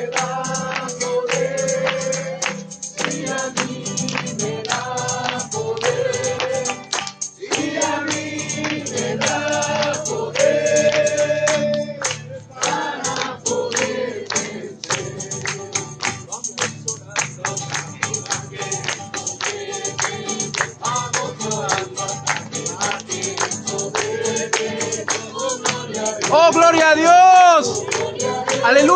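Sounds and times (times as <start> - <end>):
group singing worship chorus: 0.0 - 16.5, 17.2 - 26.6, 27.4 - 28.9.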